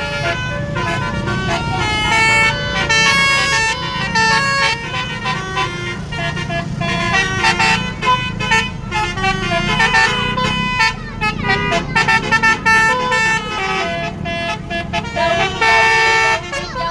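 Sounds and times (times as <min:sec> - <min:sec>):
multi-trumpet air horn melody: 0:00.0 - 0:16.9.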